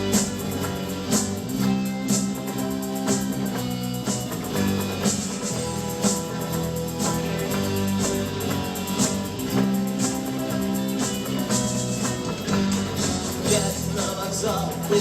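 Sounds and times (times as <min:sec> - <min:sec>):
drum kit beat: 0:00.0 - 0:15.0
rock guitars playing: 0:00.0 - 0:15.0.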